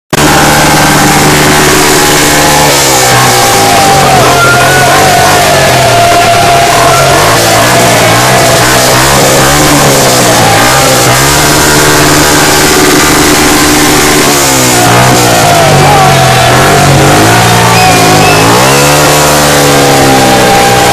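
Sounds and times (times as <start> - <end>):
motocross bike engines revving: 0.2 - 20.9.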